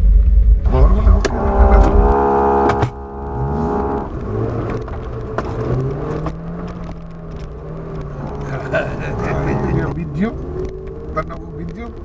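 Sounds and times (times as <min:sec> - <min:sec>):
vehicle engine accelerating: 0:00.1 - 0:12.0.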